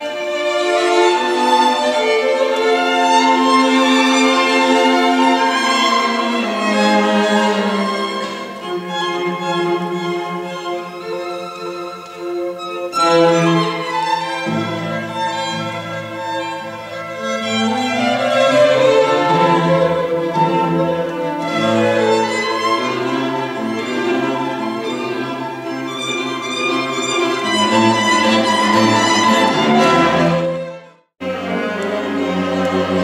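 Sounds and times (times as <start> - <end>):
lower strings bowing: 0.0 - 33.0
violins bowing: 0.0 - 33.0.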